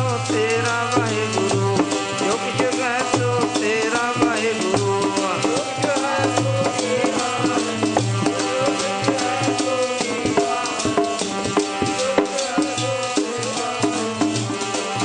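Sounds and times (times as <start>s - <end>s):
tabla rhythm: 0.0s - 15.0s.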